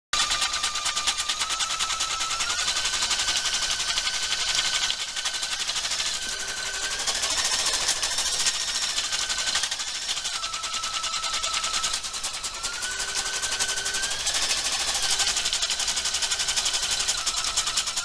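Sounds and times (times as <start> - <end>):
high motor whine: 0.2 - 18.0.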